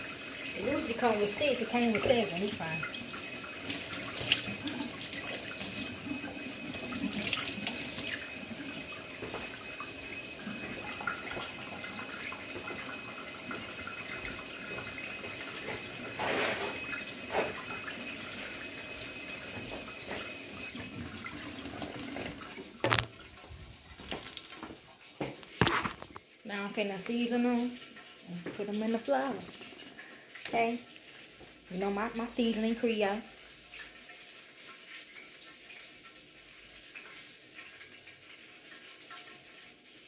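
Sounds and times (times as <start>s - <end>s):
faucet running into metal sink: 0.0s - 24.7s, 26.8s - 40.0s.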